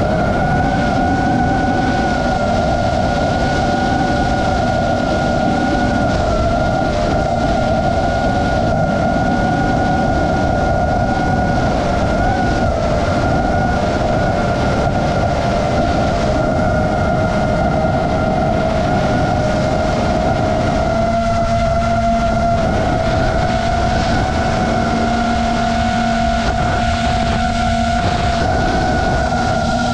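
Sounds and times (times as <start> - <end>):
quadcopter motors whining: 0.0 - 29.9
rushing air: 0.0 - 29.9.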